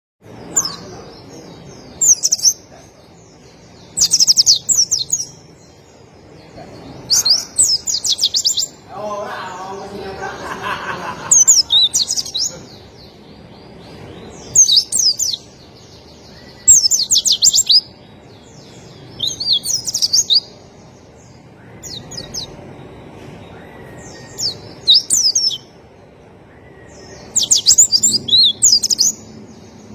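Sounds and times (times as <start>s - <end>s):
bird chirping twitters: 0.2s - 29.9s.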